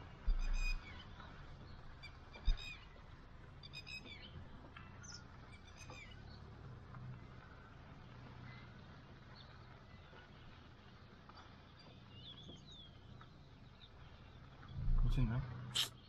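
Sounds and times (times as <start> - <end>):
low car hum: 0.0 - 16.0.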